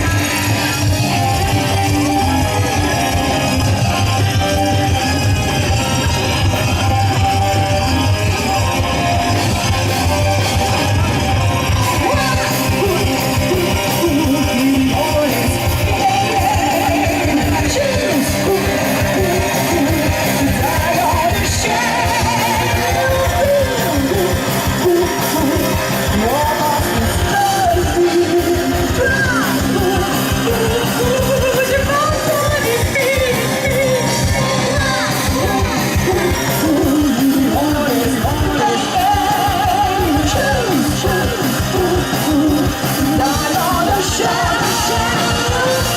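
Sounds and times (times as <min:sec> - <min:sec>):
drums beating: 0:00.0 - 0:45.9
electric guitar: 0:00.0 - 0:45.9
person singing: 0:00.0 - 0:45.9.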